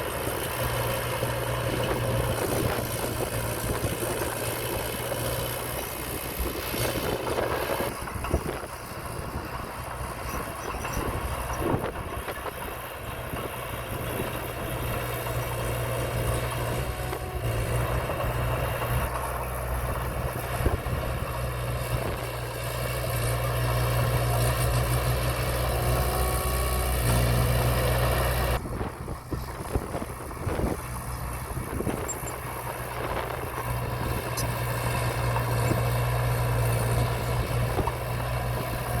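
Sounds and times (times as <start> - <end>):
diesel machinery engine running: 0.0 - 39.0.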